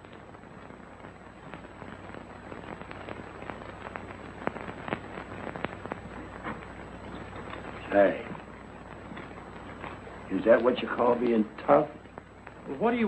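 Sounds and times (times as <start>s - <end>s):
crackling pops: 0.0s - 13.0s
film soundtrack hiss: 0.0s - 13.0s
low steady hum: 0.0s - 13.0s.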